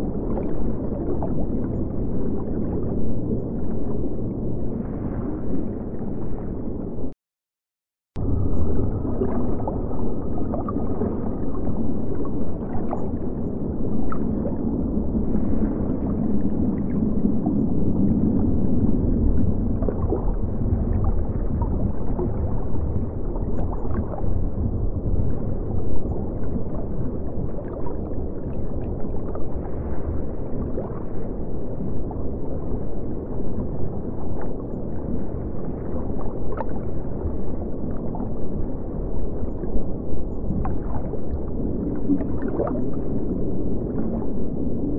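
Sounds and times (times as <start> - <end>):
muffled underwater wash: 0.0 - 7.2, 8.2 - 44.9.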